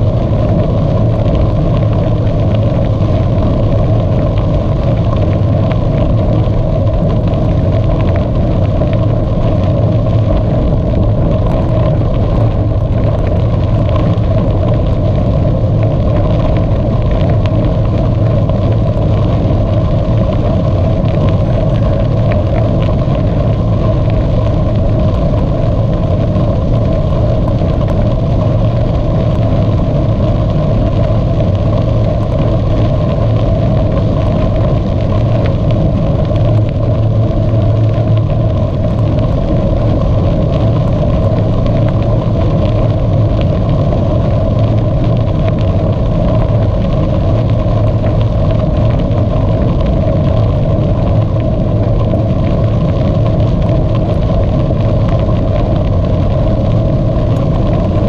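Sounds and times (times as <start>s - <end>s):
bicycle tyres rolling: 0.0s - 58.0s
wind on microphone: 0.0s - 58.0s.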